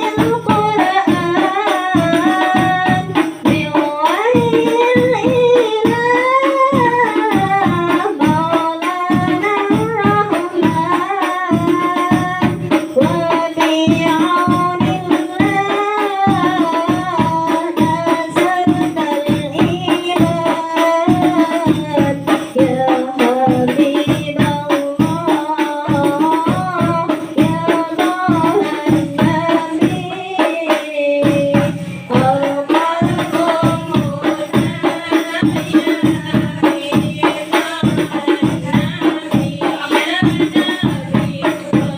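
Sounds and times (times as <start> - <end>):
frame drums with jingles: 0.0 - 41.9.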